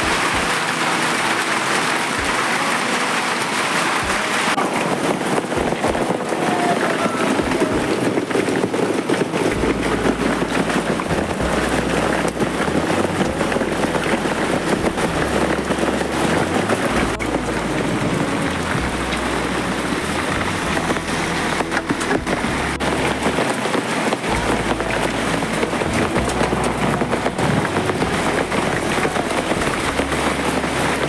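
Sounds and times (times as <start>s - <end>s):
heavy rain and hail: 0.0s - 31.0s.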